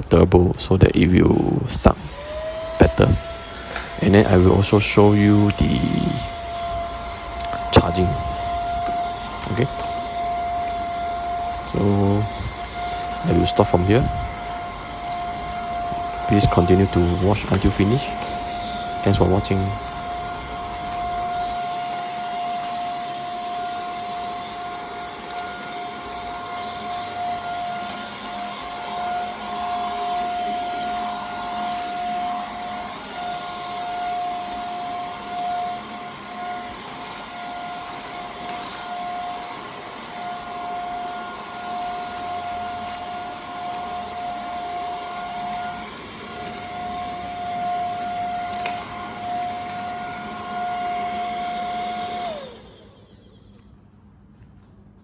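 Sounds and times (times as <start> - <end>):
stick vacuum motor whine: 0.0 - 55.0.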